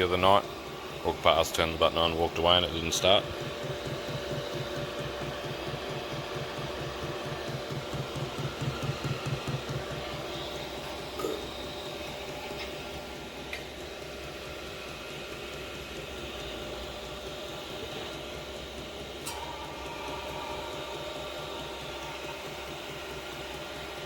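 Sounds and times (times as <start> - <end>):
blower fan whine: 0.0 - 24.0.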